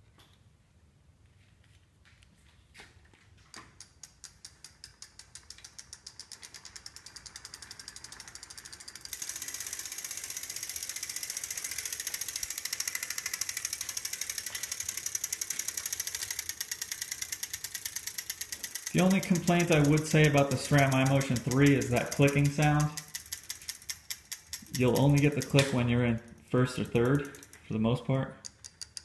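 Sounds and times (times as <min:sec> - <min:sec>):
gear hub clicking: 0:03.4 - 0:29.0.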